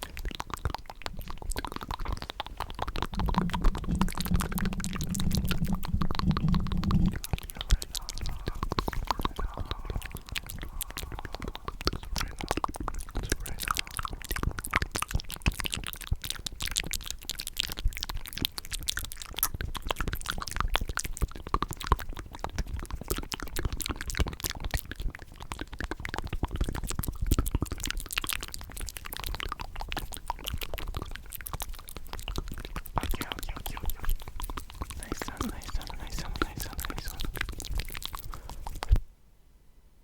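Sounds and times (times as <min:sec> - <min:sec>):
wet mouth clicks and smacks: 0:00.0 - 0:39.0.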